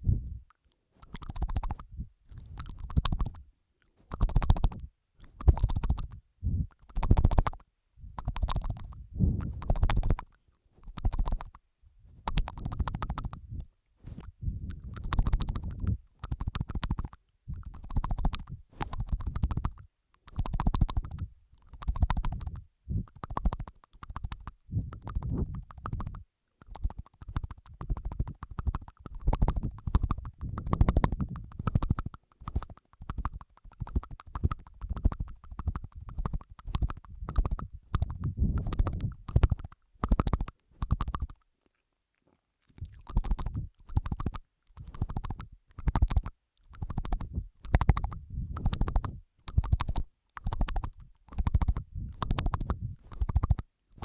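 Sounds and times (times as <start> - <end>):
wet mouth sounds: 0.0 - 54.0.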